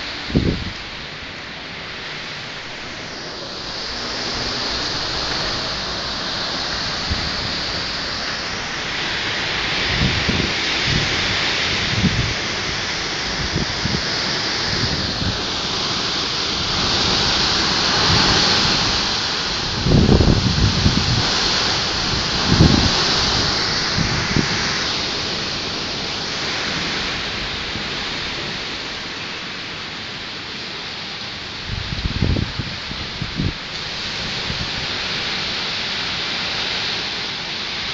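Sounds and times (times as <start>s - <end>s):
wind and rain rushing: 0.0s - 37.9s.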